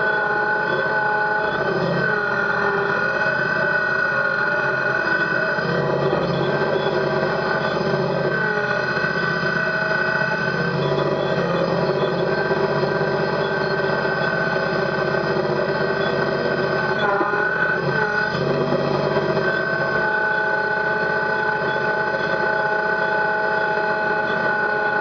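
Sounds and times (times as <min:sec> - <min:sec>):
diesel tractor engine running: 0:00.0 - 0:25.0
high steady whine: 0:00.0 - 0:25.0.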